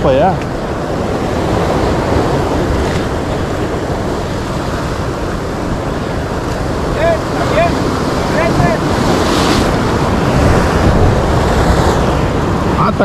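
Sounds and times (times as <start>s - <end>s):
sea waves: 0.0s - 13.0s
wind on microphone: 0.0s - 13.0s.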